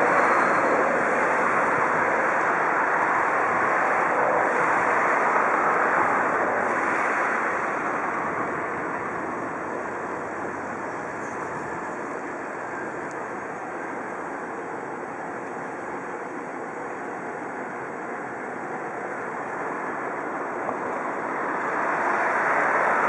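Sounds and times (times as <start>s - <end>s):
train wheels rushing on rails: 0.0s - 23.0s.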